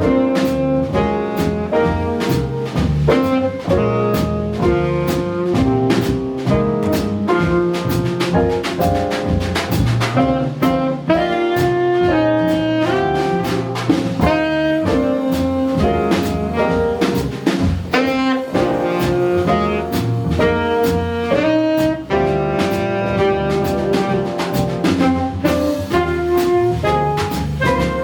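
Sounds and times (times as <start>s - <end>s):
saxophone melody: 0.0s - 2.5s, 3.1s - 9.2s, 10.1s - 28.0s
drums and cymbal strokes: 0.0s - 28.0s
piano: 0.0s - 28.0s
walking bass: 0.0s - 28.0s.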